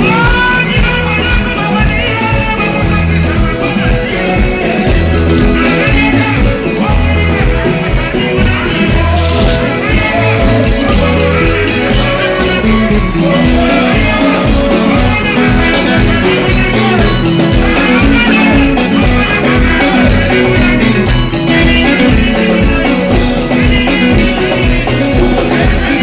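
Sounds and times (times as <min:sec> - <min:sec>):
dance-band music with guitar: 0:00.0 - 0:26.0.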